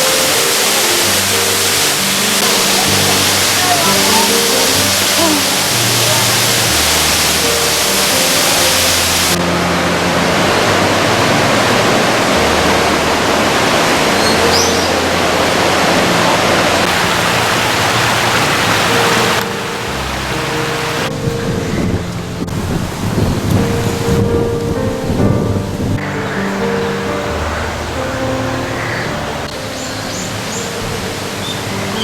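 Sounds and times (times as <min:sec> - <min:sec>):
soft sustained music notes: 0:00.0 - 0:32.0
waterfall rushing: 0:00.0 - 0:32.0.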